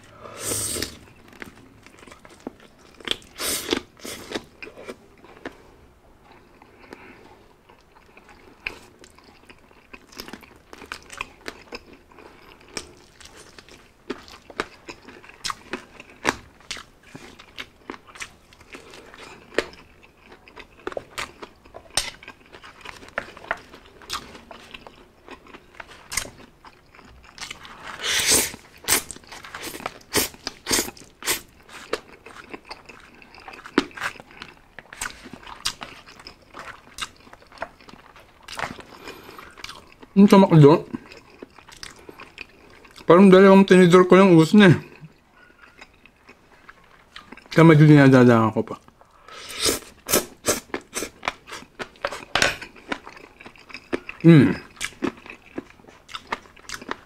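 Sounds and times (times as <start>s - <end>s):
person chewing crispy chicken: 0.8s - 5.6s, 6.2s - 40.2s, 40.9s - 43.1s, 44.9s - 47.5s, 48.8s - 57.0s.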